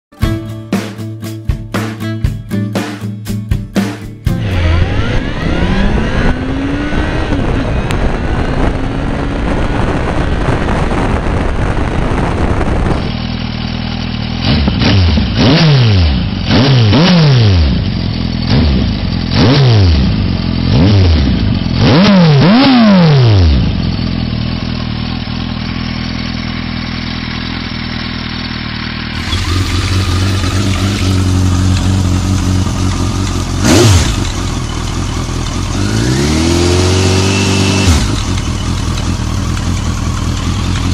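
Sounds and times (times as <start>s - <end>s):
motorcycle engine revving: 4.2s - 40.9s.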